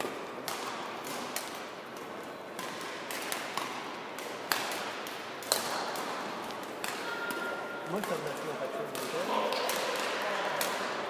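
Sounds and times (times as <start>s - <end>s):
rackets hitting shuttlecock: 0.0s - 11.0s
steady background noise: 0.0s - 11.0s.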